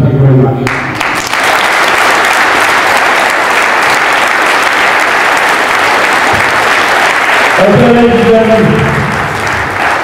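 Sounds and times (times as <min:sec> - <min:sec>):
crowd applauding: 0:00.6 - 0:10.0.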